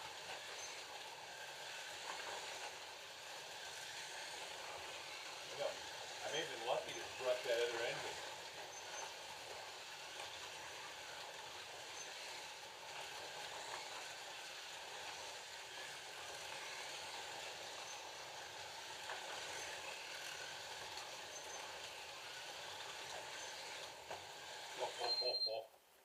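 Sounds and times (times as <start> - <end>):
slot car motors whirring: 0.0 - 25.6.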